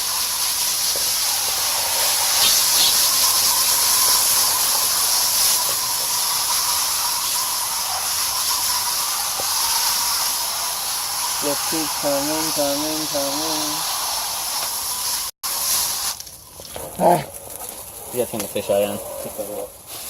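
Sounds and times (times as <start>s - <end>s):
garden hose spraying water: 0.0s - 20.0s.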